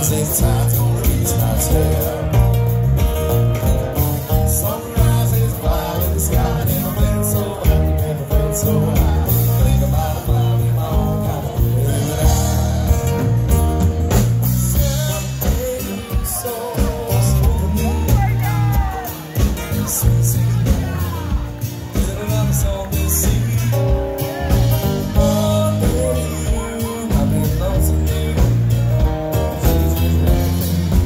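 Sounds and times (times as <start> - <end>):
electric bass: 0.0 - 16.1, 16.8 - 31.0
acoustic guitar: 0.0 - 31.0
drums: 0.0 - 31.0
man singing: 0.0 - 31.0.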